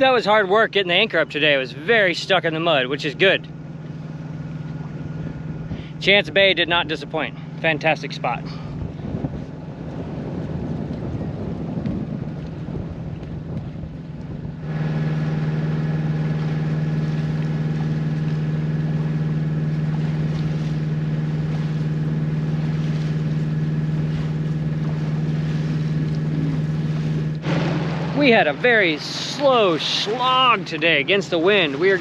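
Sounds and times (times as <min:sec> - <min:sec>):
boat engine humming: 0:00.0 - 0:32.0
water: 0:00.0 - 0:32.0
wind: 0:00.0 - 0:32.0.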